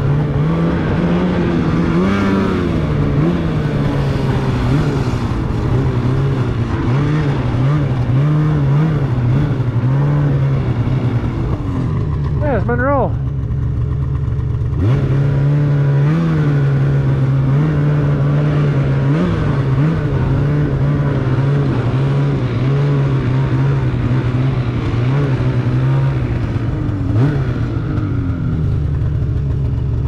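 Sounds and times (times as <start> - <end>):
snowmobile engine running: 0.0 - 30.0.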